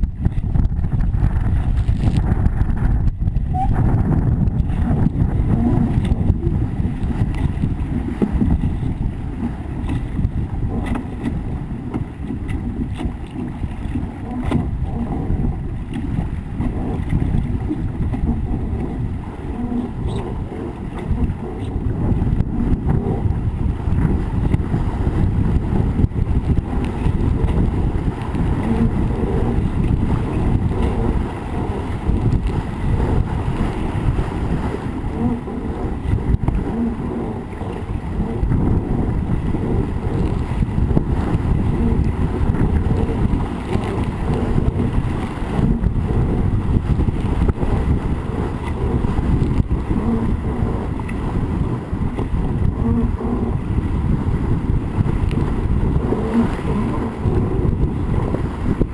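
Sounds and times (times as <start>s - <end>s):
water rushing past hull: 0.0s - 58.9s
wind buffeting on microphone: 0.0s - 58.9s.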